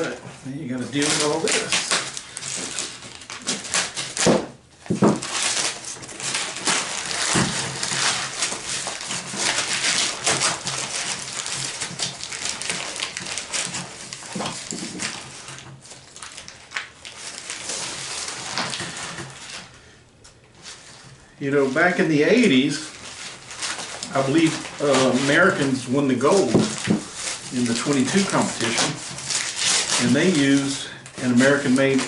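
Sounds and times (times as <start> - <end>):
packing material ripping: 0.0 - 19.8, 20.6 - 32.0
packing material crinkling: 0.0 - 32.0.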